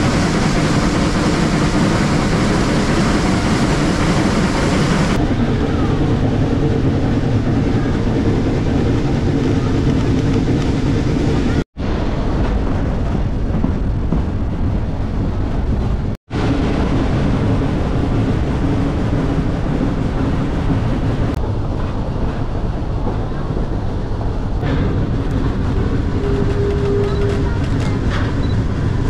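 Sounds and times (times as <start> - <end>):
steam train rumbling on track: 0.0 - 29.0.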